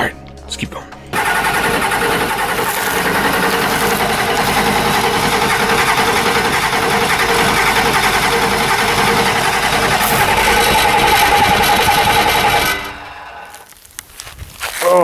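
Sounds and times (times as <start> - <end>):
diesel engine idling: 1.1 - 13.7.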